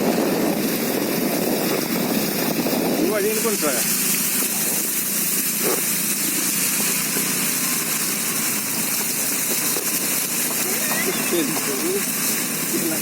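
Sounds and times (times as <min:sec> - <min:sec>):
vehicle engine running: 0:00.0 - 0:13.0
water splashing around wheels: 0:00.0 - 0:13.0.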